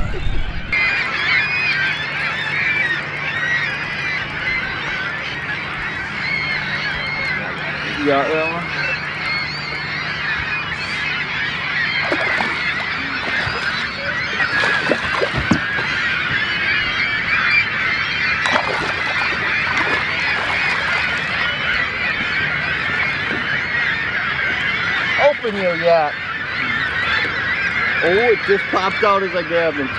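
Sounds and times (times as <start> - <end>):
flock of gulls calling: 0.0 - 29.9.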